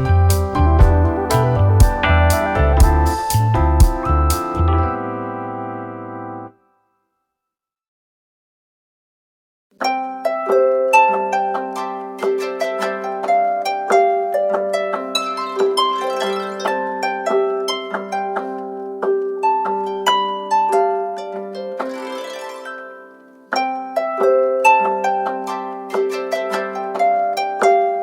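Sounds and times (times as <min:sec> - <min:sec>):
plucked harp-like ringtone melody: 0:00.0 - 0:06.5, 0:09.8 - 0:18.8, 0:19.4 - 0:28.0.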